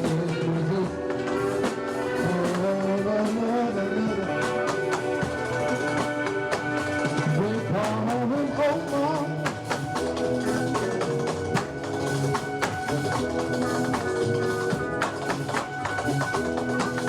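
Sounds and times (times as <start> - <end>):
held instrumental chords: 0.0 - 17.0.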